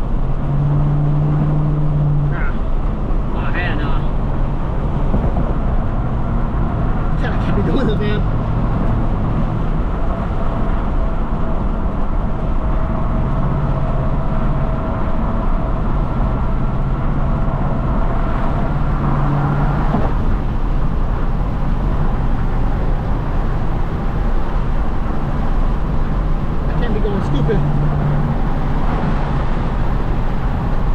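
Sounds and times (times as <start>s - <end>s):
car engine and road noise drone: 0.0s - 30.9s.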